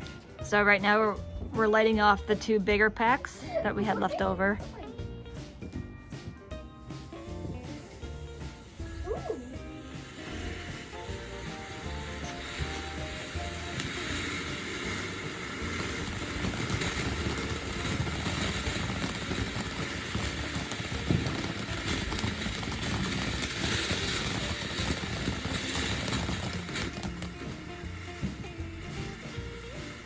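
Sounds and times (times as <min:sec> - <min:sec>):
firework cake crackling and popping: 0:00.0 - 0:30.0.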